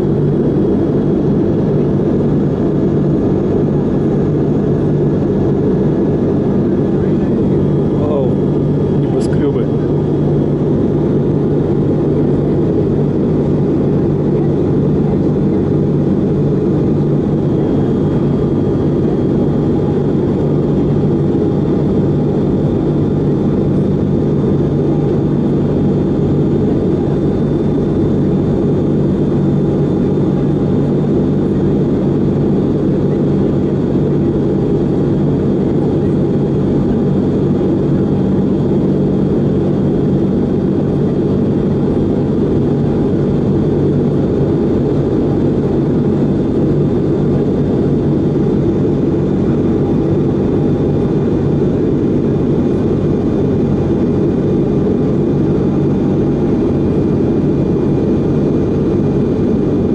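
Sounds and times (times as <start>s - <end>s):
jet engine noise in cabin: 0.0s - 59.9s.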